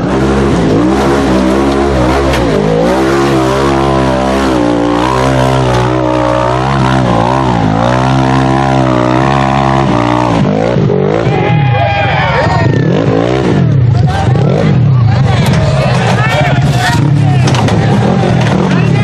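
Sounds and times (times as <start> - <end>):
engine running at high revs: 0.0 - 11.6, 12.4 - 19.0.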